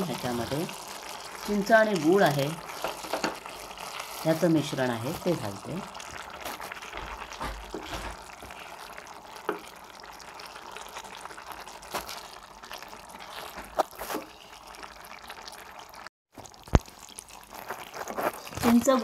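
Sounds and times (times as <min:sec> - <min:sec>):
wet sloshing of curry: 0:00.2 - 0:18.8.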